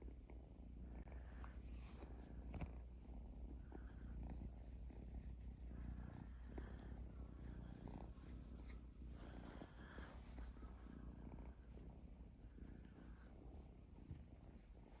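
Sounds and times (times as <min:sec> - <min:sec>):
kitten purring: 0:00.0 - 0:15.0.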